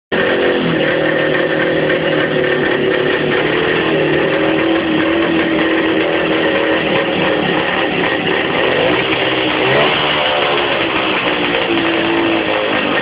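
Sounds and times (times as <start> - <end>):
motorcycle engine idling: 0.1 - 13.0.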